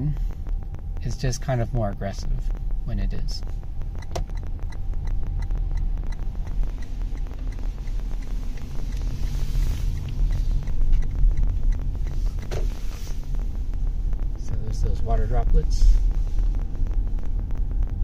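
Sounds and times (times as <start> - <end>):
low road rumble in car cabin: 0.0 - 18.0.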